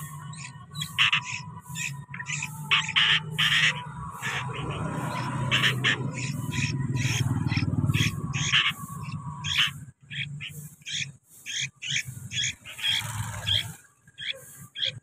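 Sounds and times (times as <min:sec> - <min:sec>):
bulbuls chirping: 0:00.0 - 0:15.0.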